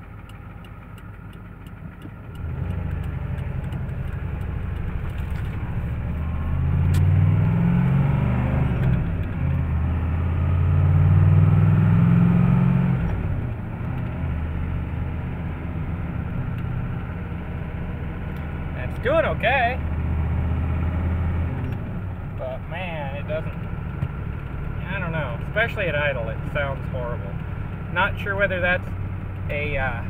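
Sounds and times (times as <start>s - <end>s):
diesel engine accelerating: 0.0s - 30.0s.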